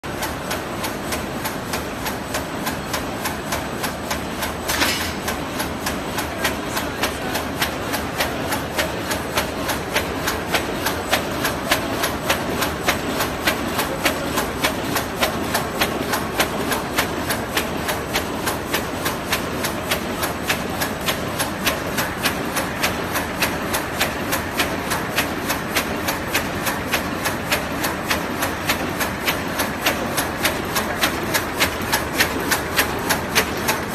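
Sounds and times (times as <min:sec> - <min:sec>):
machine clacking rapidly: 0:00.1 - 0:33.9.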